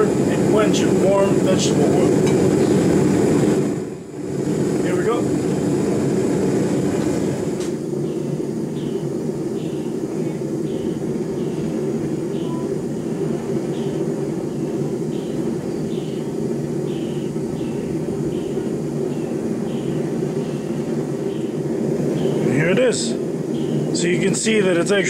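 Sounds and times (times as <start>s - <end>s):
gas burner roaring: 0.0s - 25.0s.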